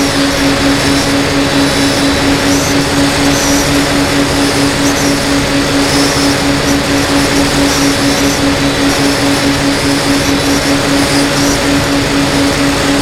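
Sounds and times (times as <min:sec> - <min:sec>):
drone motor and propeller: 0:00.0 - 0:13.0
pulsing hum: 0:00.0 - 0:13.0.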